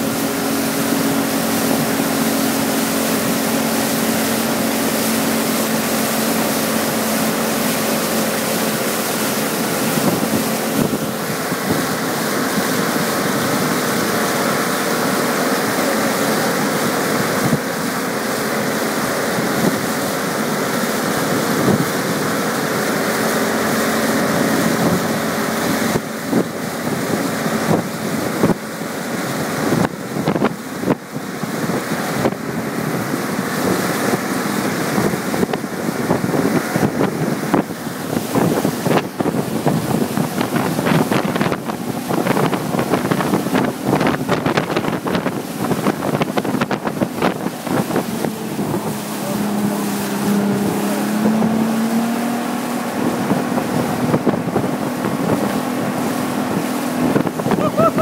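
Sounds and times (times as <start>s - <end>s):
boat engine running: 0.0s - 58.0s
churning wake rushing: 0.0s - 58.0s
wind buffeting microphone: 0.0s - 58.0s.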